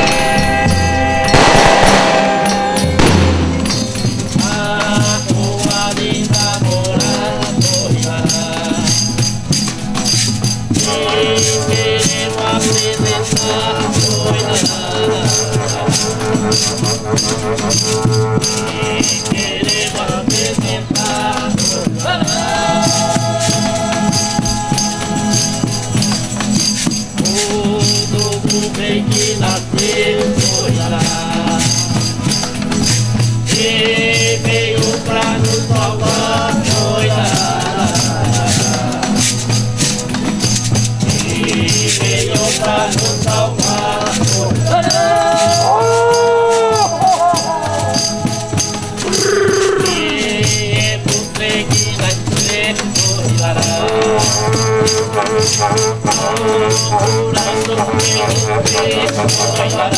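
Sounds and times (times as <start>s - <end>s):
group singing a slow chant: 0.0s - 9.3s, 10.6s - 26.2s, 27.2s - 32.8s, 33.4s - 40.0s, 41.0s - 59.9s
acoustic guitars: 0.0s - 59.9s
jingling tambourine: 0.0s - 59.9s.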